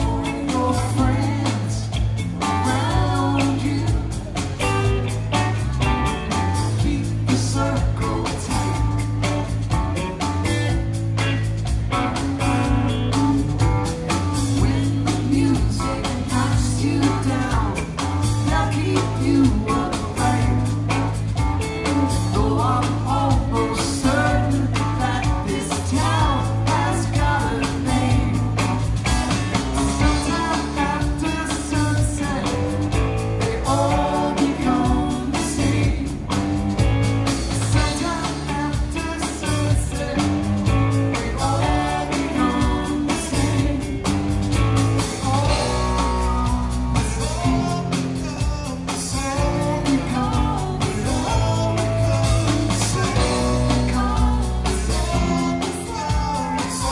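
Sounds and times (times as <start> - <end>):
person singing: 0.0 - 11.5, 12.1 - 36.6, 37.2 - 56.9
electric guitar: 0.0 - 56.9
rock blues song: 0.0 - 56.9.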